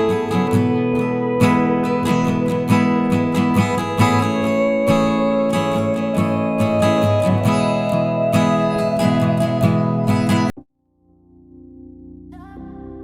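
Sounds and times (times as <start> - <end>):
strummed acoustic guitar music: 0.0 - 10.5.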